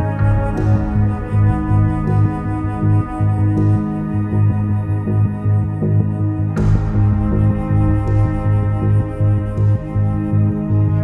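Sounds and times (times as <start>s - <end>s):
low pulsing bass: 0.0s - 11.0s
soft ambient instrumental music: 0.0s - 11.0s.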